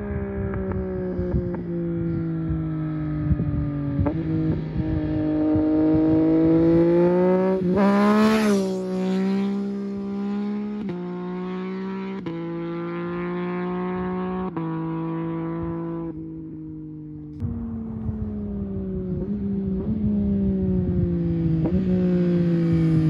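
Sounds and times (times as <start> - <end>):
motorcycle passing at high revs: 0.0 - 23.0
wind and tyre noise: 0.0 - 23.0.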